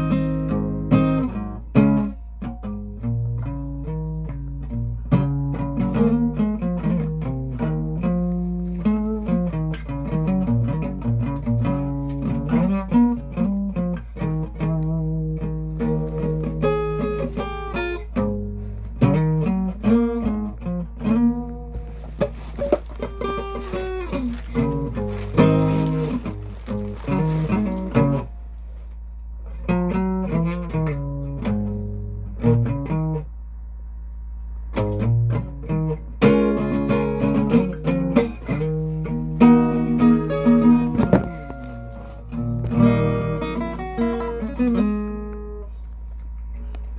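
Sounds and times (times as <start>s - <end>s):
fingerstyle acoustic guitar: 0.0s - 33.6s, 34.5s - 46.9s
steady low hum: 0.5s - 46.9s.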